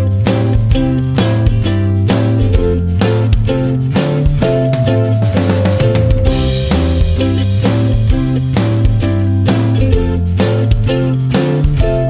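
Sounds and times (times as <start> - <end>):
steady bass line: 0.0 - 12.0
strummed guitar chords: 0.0 - 12.0.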